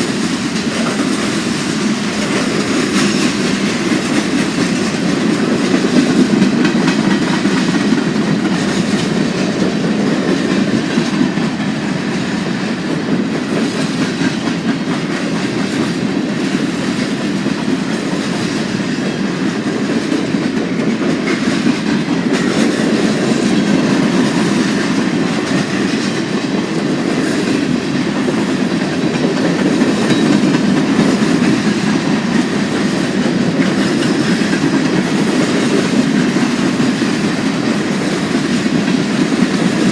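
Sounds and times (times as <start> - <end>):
freight cars rolling on rails: 0.0 - 39.9.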